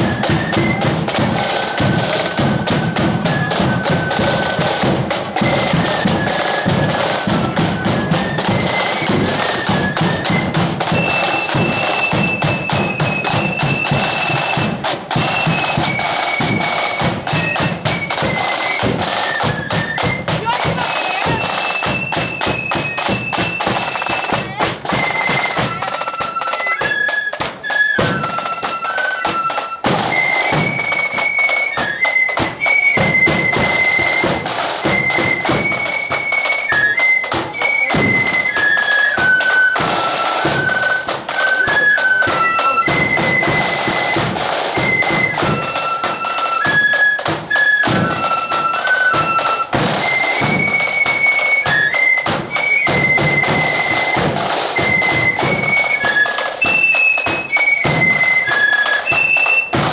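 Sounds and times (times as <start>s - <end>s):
flute melody: 0.0s - 59.9s
rapid drumming: 0.0s - 59.9s.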